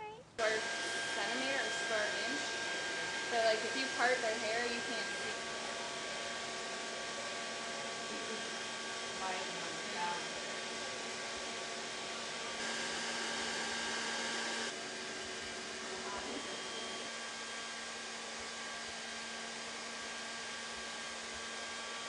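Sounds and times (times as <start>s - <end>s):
machine hum and hiss: 0.4s - 22.0s.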